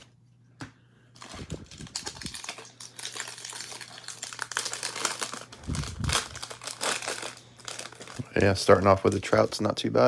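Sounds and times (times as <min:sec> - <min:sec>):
cards rustling: 0:01.2 - 0:09.7
plastic wrappers crinkling: 0:01.2 - 0:09.8.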